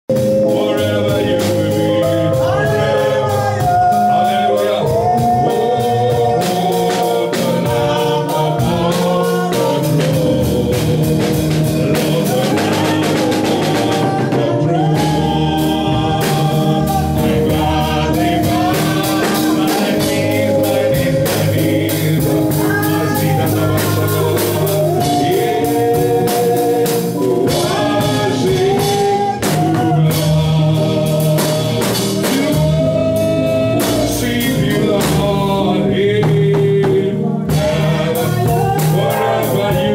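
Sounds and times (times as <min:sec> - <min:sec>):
bass: 0:00.0 - 0:39.9
gospel singing: 0:00.0 - 0:39.9
organ: 0:00.0 - 0:39.9
drum beat: 0:00.1 - 0:39.9.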